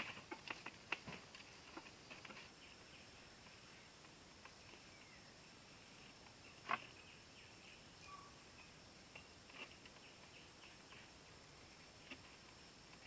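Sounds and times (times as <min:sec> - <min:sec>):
quiet hiss: 0:00.0 - 0:13.0.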